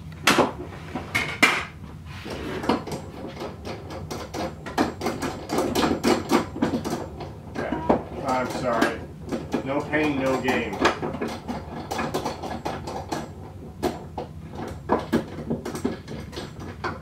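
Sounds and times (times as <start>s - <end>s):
tools and wood knocking on workbench: 0.2s - 1.7s, 2.5s - 17.0s.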